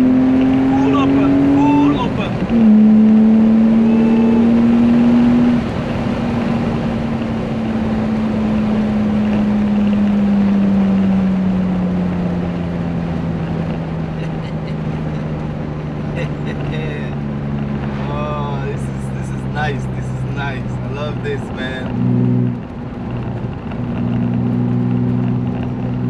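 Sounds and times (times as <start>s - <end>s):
car engine droning in cabin: 0.0s - 26.0s
road and wind noise: 0.0s - 26.0s.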